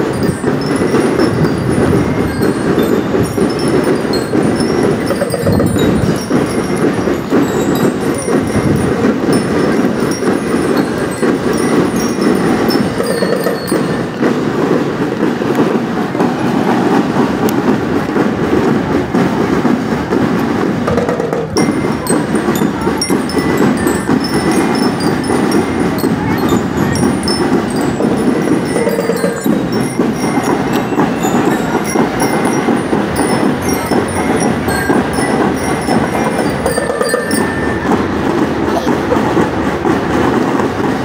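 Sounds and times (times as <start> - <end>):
bell-lyre notes: 0.0 - 15.5, 21.6 - 39.4
marching band drumming: 0.0 - 41.0.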